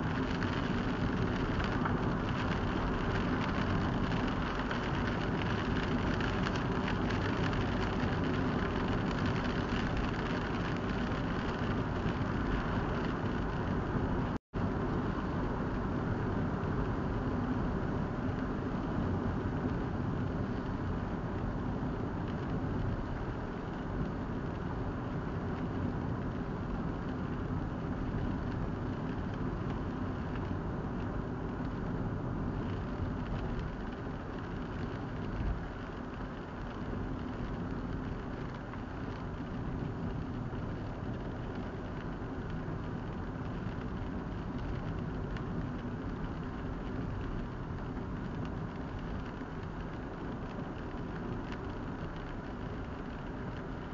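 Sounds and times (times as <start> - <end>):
car road noise on wet road: 0.0 - 53.9.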